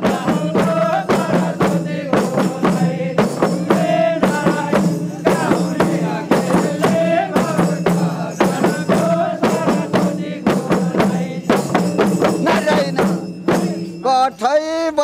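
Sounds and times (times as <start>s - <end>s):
jingled frame drums: 0.0s - 15.0s
man singing: 0.0s - 15.0s.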